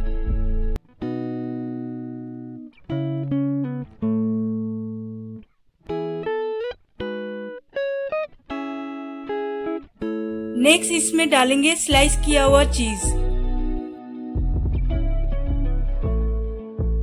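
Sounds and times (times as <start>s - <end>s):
plucked instrumental music: 0.0s - 17.0s.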